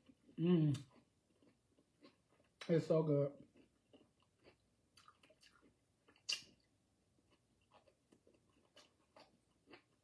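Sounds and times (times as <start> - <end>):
chewing and mouth sounds: 0.0 - 2.7, 3.3 - 10.0.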